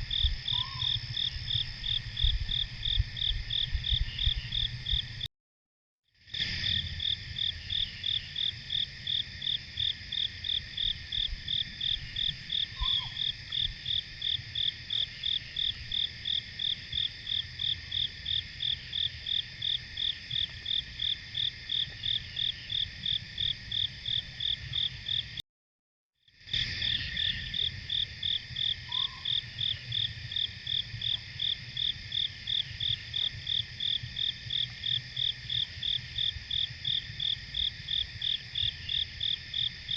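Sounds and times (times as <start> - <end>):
insect chirping rhythmically: 0.0 - 5.3, 6.3 - 25.4, 26.3 - 39.9
insects trilling: 0.0 - 5.3, 6.2 - 25.4, 26.3 - 39.9.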